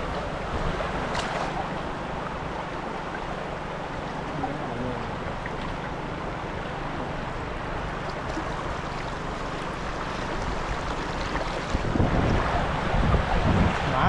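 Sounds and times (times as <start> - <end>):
low water rumbling: 0.0 - 14.0
stream water rushing: 0.0 - 14.0.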